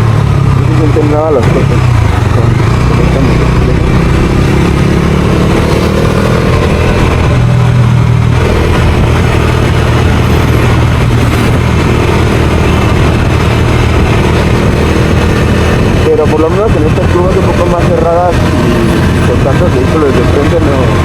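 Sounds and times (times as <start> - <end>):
motorcycle engine running: 0.0 - 21.0
wind noise from riding: 0.0 - 21.0.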